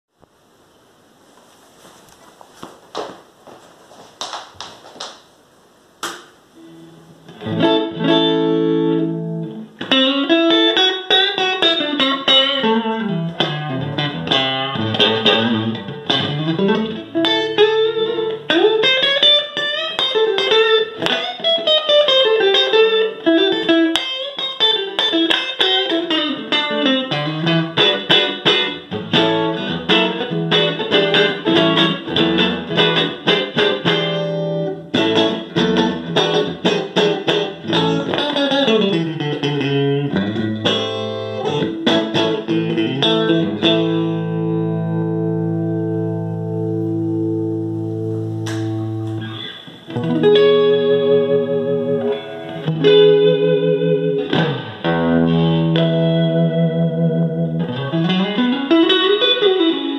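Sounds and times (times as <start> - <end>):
electric guitar lead line: 6.0 - 59.9.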